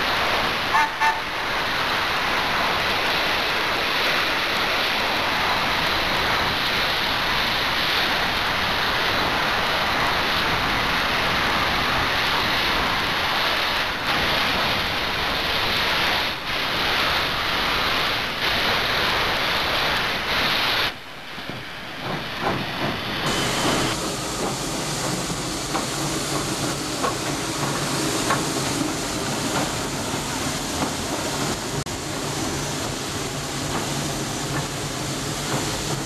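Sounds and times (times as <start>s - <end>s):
steam locomotive hissing: 0.0s - 36.0s
train clicks and knocks: 0.0s - 36.0s.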